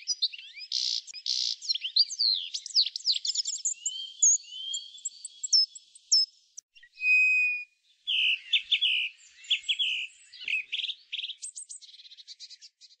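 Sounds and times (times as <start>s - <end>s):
bird whistle: 0.0s - 12.0s
bird trills: 0.0s - 12.9s
birds chirping: 0.0s - 13.0s.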